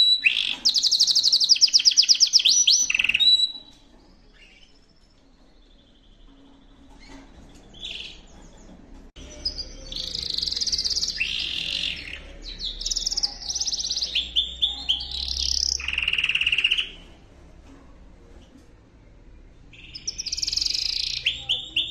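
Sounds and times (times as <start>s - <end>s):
canary singing trills: 0.0s - 17.2s, 19.6s - 21.9s.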